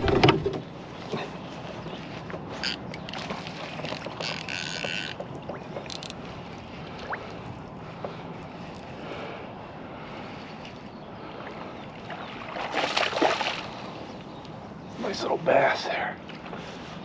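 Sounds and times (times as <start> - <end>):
water lapping against canoe: 0.0 - 14.9.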